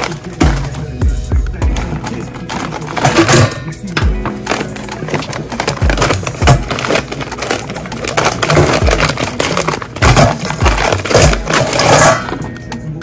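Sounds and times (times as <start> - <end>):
plastic bag crinkling: 0.0 - 12.7
background music with bass thuds: 0.0 - 13.0
shrimp clinking into metal bowl: 1.7 - 12.7.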